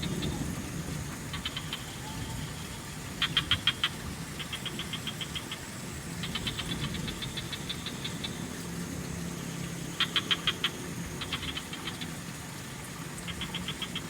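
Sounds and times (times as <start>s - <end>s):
frogs calling in clicking pulses: 0.0s - 14.0s.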